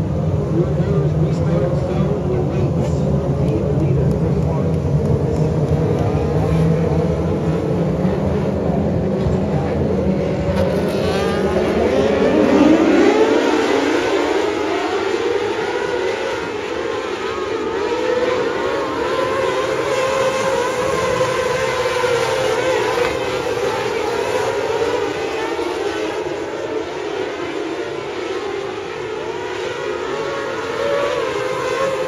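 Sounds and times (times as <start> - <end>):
race car engines droning: 0.0 - 32.0.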